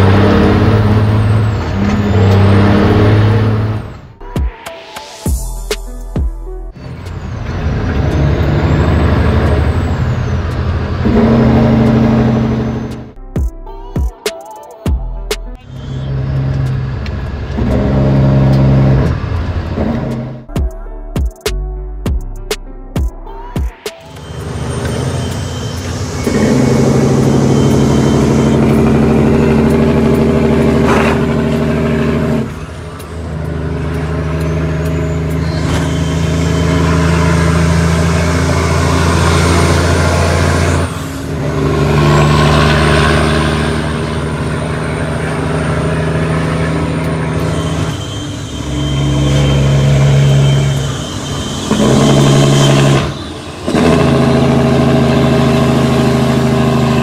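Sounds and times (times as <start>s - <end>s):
diesel truck engine under load: 0.0s - 4.4s, 6.8s - 13.2s, 15.4s - 20.6s, 24.1s - 57.0s.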